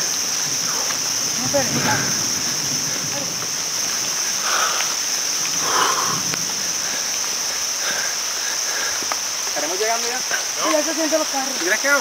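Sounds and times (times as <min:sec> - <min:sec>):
crickets chirping chorus: 0:00.0 - 0:12.0
rain hiss: 0:00.0 - 0:12.0.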